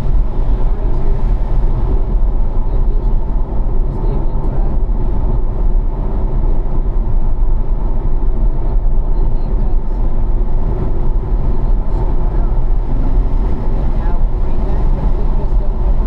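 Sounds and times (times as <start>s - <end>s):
tyre and wind noise: 0.0s - 9.0s, 9.8s - 16.0s
car engine low rumble: 0.0s - 16.0s.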